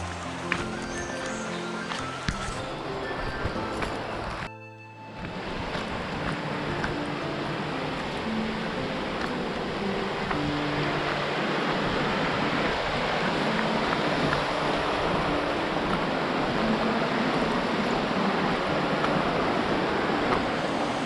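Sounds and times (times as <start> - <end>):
rushing water roar: 0.0 - 21.0.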